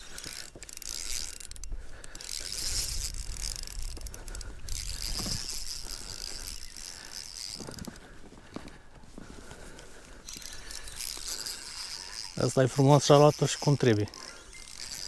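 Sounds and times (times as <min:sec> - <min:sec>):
fishing reel whirring and clicking: 0:00.0 - 0:15.0.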